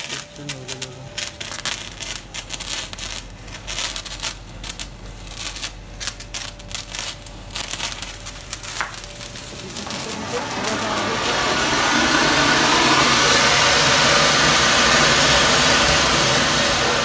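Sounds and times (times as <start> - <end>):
sparkler crackling: 0.0 - 17.0.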